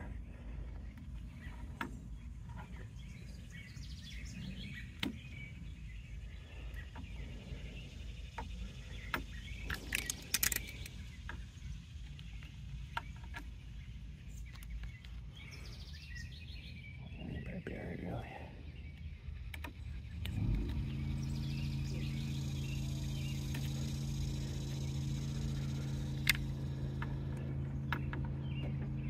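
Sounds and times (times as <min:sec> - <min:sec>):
outdoor background rumble: 0:00.0 - 0:29.0.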